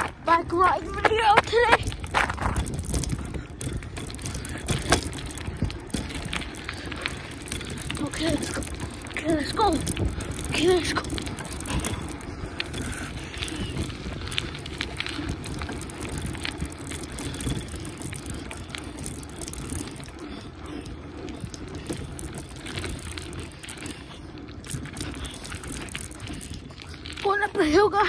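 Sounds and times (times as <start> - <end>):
bicycle tyres rumbling on asphalt: 0.0 - 28.0
bike clicks and rattles: 0.0 - 28.0.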